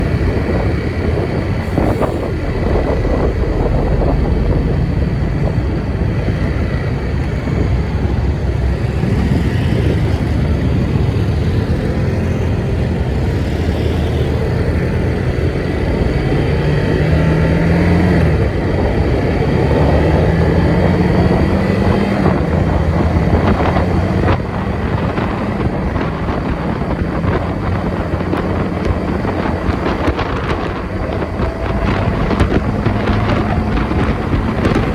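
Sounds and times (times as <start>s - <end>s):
vehicle engine rumbling: 0.0s - 34.9s.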